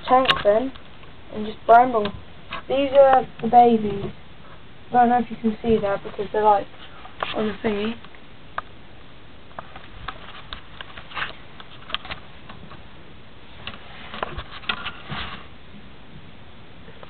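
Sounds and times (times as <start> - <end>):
soft rustles: 0.0 - 8.1, 9.5 - 15.6
faint steady hiss: 0.0 - 17.0.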